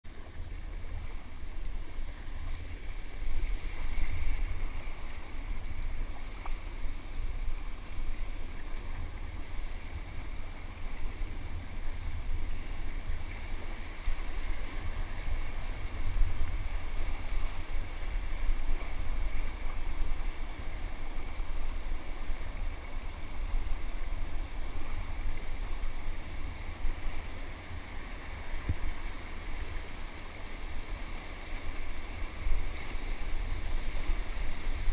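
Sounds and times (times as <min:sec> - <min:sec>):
wind buffeting microphone: 0:01.7 - 0:34.9.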